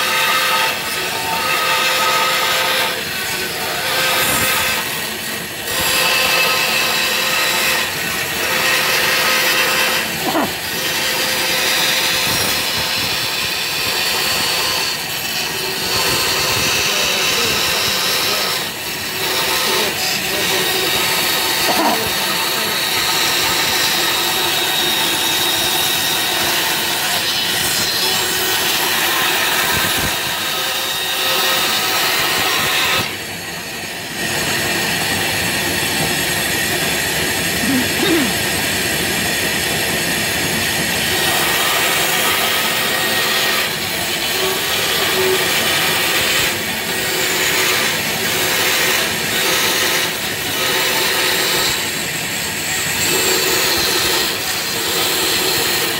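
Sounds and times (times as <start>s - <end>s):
band saw cutting plywood: 0.0s - 55.9s.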